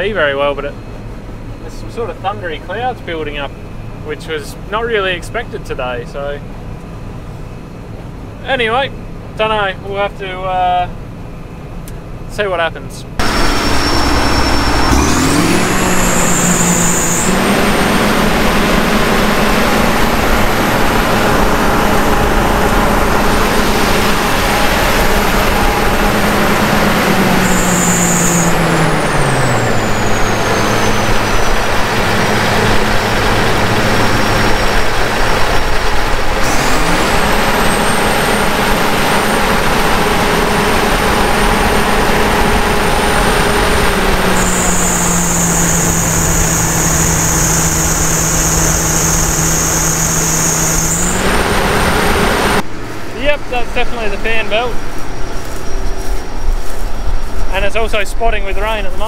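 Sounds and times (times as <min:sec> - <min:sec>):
engine and fan humming: 0:00.0 - 0:59.0
fan belt squealing: 0:00.0 - 0:59.0.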